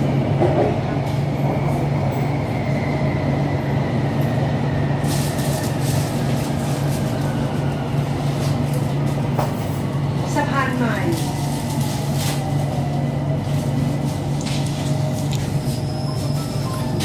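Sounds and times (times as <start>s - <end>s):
electric train running hum: 0.0s - 17.0s.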